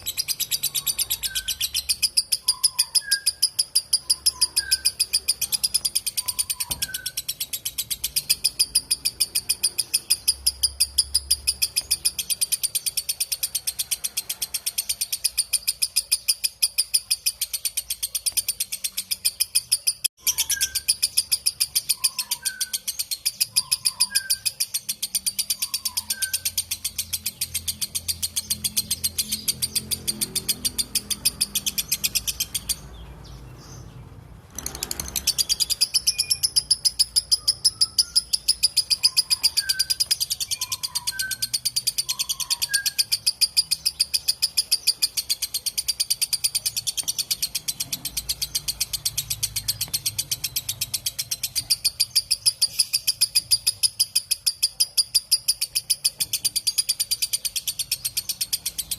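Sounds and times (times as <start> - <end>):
soft low bird chirps: 0.0 - 14.2, 14.9 - 58.9
bird shrill chattering song: 0.0 - 58.9.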